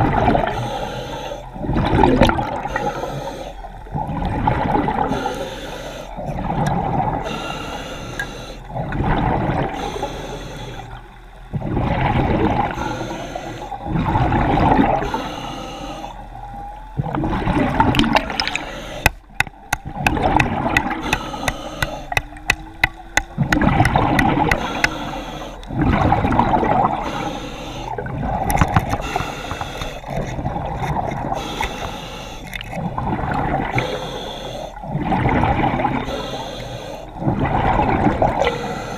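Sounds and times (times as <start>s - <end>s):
water sloshing and gurgling: 0.0s - 38.9s.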